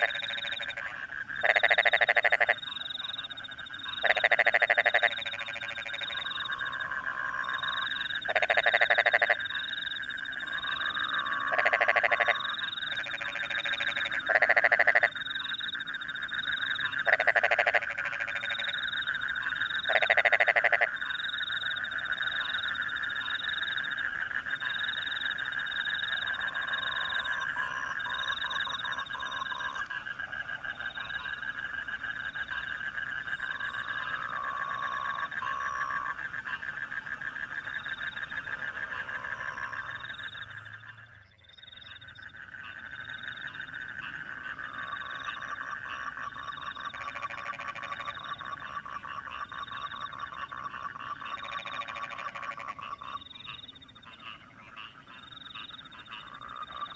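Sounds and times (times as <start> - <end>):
crickets trilling and chirping: 0.0 - 56.9
frogs croaking in chorus: 0.0 - 56.9.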